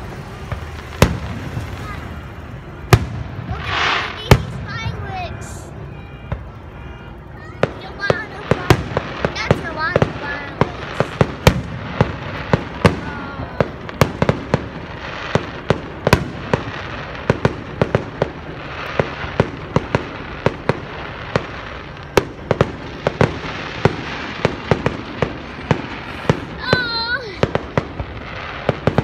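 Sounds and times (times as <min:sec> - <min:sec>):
fireworks bangs and pops: 0:00.0 - 0:06.7, 0:07.3 - 0:29.0.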